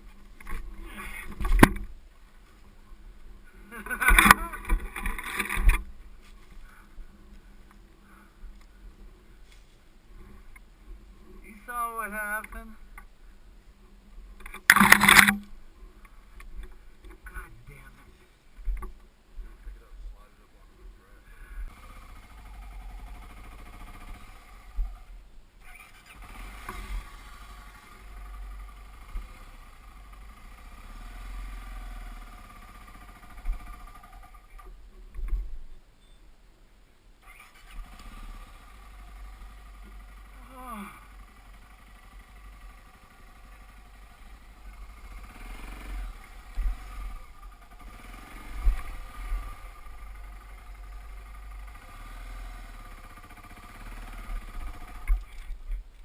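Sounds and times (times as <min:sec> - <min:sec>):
dirt bike engine running unevenly: 0:00.0 - 0:13.2, 0:21.0 - 0:35.4, 0:37.2 - 0:56.0.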